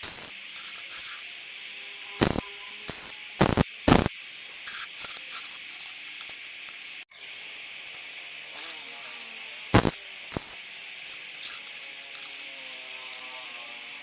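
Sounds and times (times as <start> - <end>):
steady hiss: 0.0 - 12.9.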